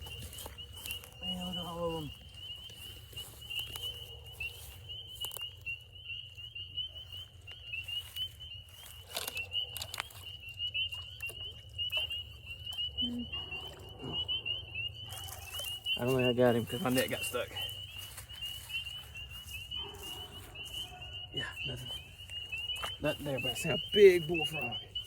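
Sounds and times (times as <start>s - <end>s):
chorus of frogs peeping: 0.0s - 25.0s.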